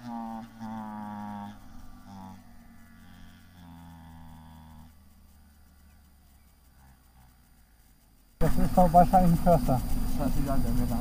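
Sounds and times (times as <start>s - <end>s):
low humming notes: 0.0s - 11.0s.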